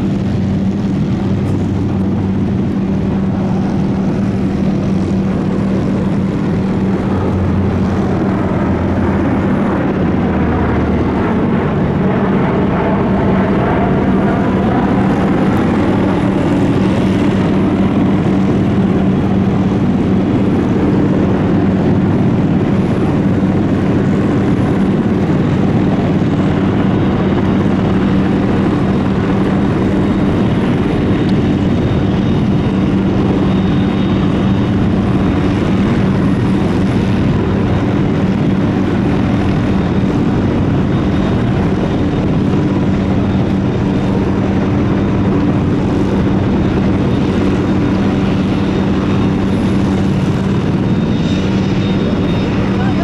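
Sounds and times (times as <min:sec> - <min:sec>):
turboprop propeller drone: 0:00.0 - 0:53.0.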